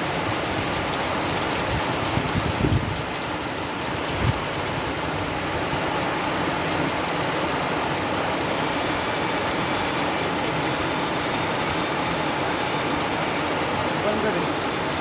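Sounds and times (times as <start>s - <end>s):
rain pattering on surfaces: 0.0s - 15.0s.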